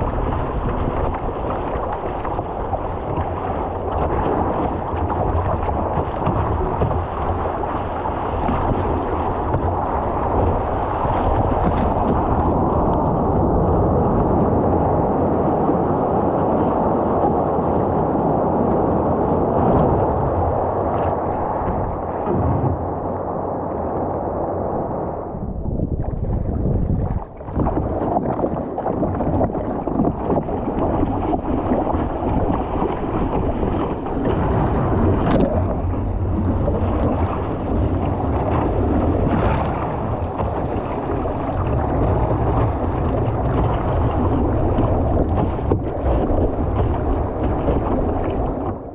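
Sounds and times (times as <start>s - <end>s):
seawater rushing and splashing: 0.0s - 48.9s
wind on microphone: 0.0s - 48.9s.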